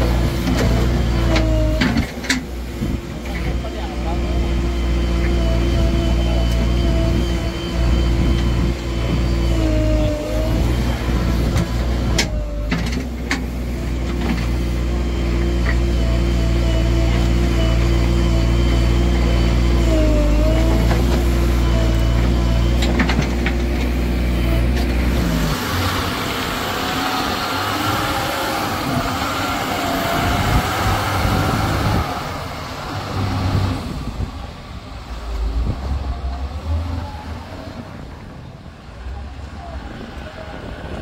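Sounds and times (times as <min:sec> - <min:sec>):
diesel engine running: 0:00.0 - 0:41.0
wavering whine: 0:00.0 - 0:41.0.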